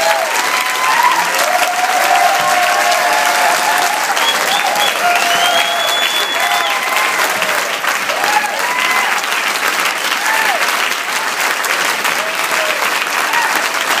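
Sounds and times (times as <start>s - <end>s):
shouted whoops and cheers: 0.0s - 9.4s, 10.0s - 10.8s, 12.2s - 14.0s
audience applauding: 0.0s - 14.0s.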